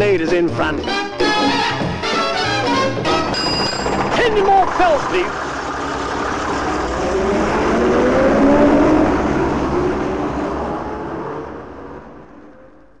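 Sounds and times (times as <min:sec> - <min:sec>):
bus engine accelerating: 0:00.8 - 0:13.0.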